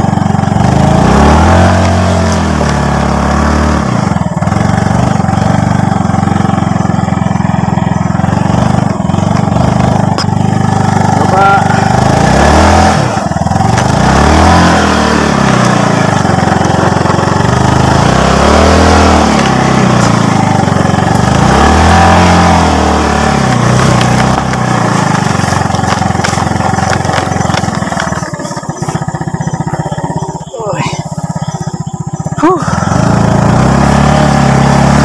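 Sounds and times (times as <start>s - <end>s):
wind and road rush: 0.0s - 34.9s
small motorcycle engine revving: 0.0s - 35.0s.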